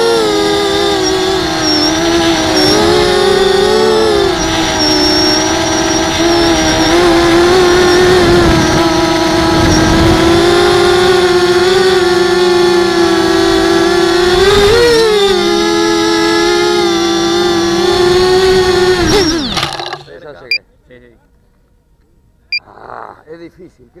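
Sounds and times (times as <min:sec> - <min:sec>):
quadcopter motors buzzing whine: 0:00.0 - 0:20.6.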